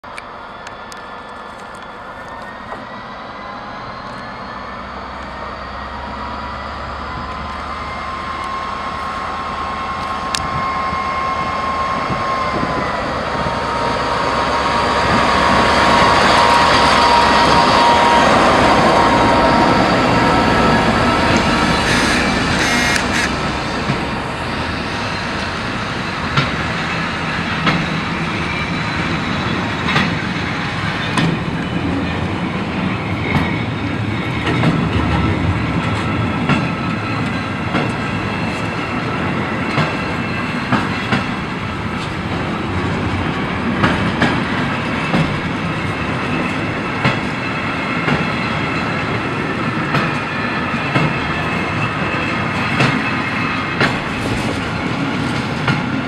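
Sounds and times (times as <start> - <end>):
train rumble: 0.0 - 56.0.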